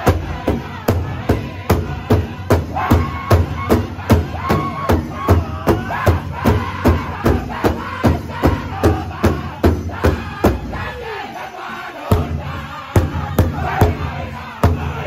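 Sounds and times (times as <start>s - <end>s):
big drum beating: 0.0s - 10.8s, 12.1s - 15.0s
drum group singing: 0.0s - 15.0s.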